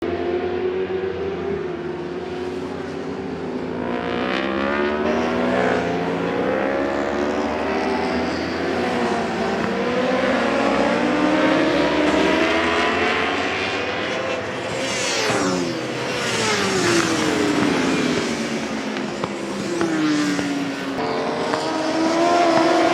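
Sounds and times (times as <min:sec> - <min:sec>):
racing motorcycles at high revs: 0:04.4 - 0:22.9.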